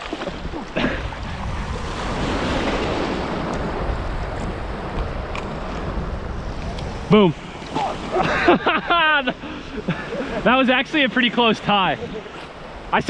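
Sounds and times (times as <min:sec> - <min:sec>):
wind buffeting microphone: 0:00.0 - 0:10.5
small waves washing: 0:00.0 - 0:13.0.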